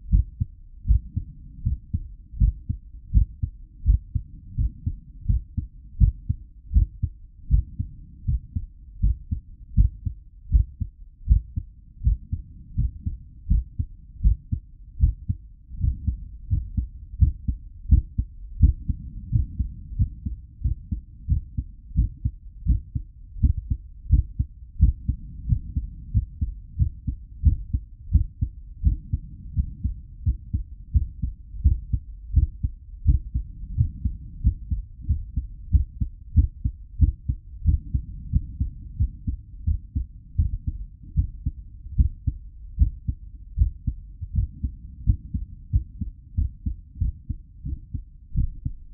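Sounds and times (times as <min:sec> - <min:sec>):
heartbeat thumps: 0:00.0 - 0:48.9.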